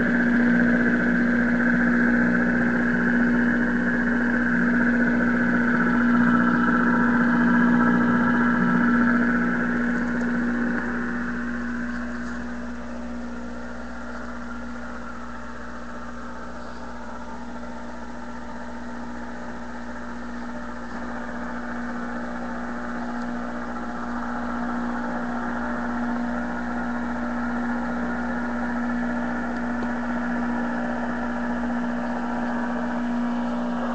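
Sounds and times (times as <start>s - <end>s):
radio low hum tone: 0.0s - 33.9s.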